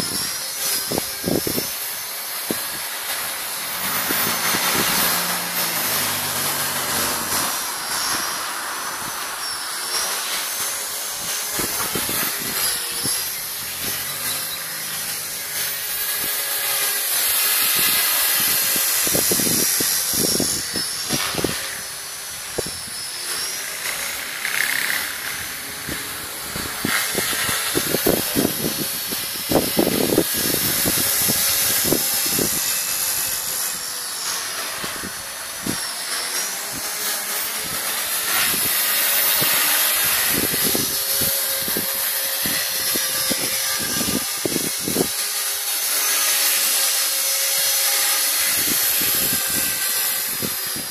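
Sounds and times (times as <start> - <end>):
gusty bursts of rushing noise: 0.0 - 45.9, 48.2 - 50.9
rc helicopter motor whine: 0.0 - 50.9
rotor blade rushing noise: 0.0 - 50.9.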